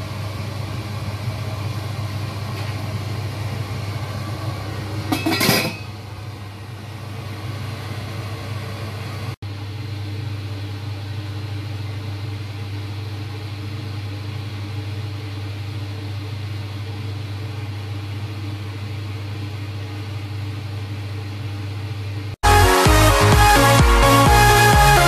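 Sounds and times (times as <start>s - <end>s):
low machine hum with hiss: 0.0s - 22.4s.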